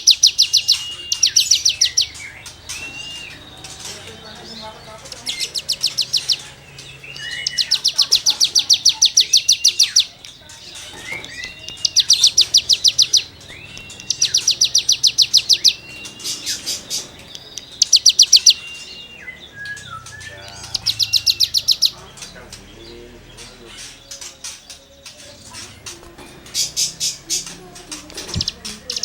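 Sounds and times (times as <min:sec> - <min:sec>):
songbird rasping trills: 0:00.0 - 0:29.0.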